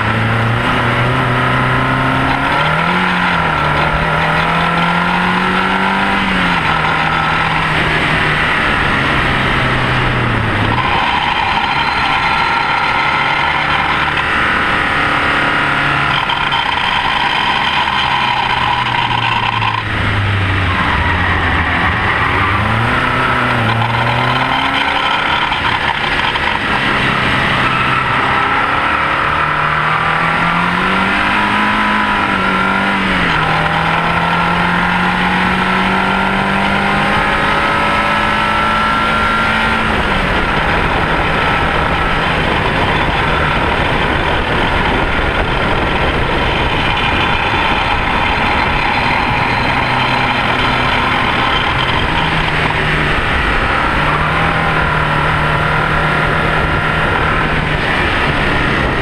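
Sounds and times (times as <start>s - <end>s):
racing car engine revving: 0.0s - 59.0s
tyre and road noise: 0.0s - 59.0s
wind noise: 0.0s - 59.0s.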